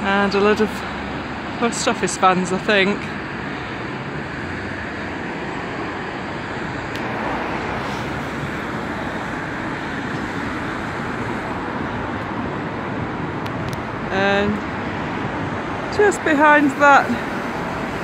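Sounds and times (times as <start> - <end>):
road traffic engines and tyres: 0.0 - 18.0.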